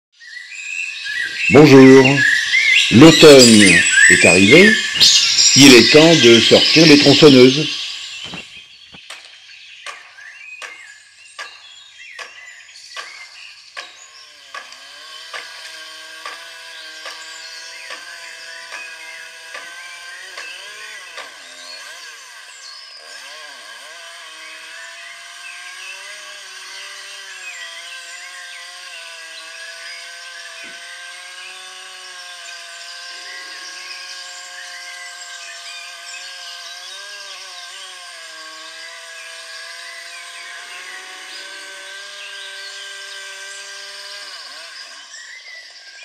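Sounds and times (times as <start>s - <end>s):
small motor buzzing whine: 0.2s - 46.0s.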